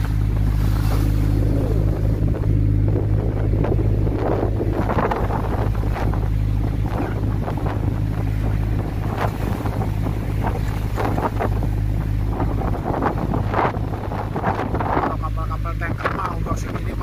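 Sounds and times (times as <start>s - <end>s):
boat engine humming: 0.0s - 17.0s
sea splashing against hull: 0.0s - 17.0s
wind buffeting microphone: 0.0s - 17.0s.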